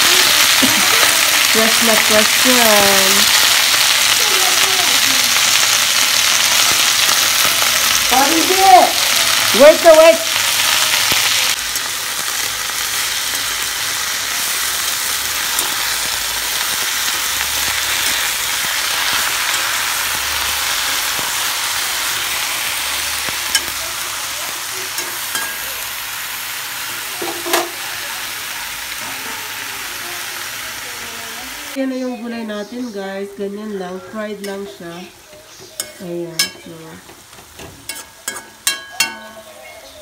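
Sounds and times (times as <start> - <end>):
greens sizzling in hot oil: 0.0 - 40.0.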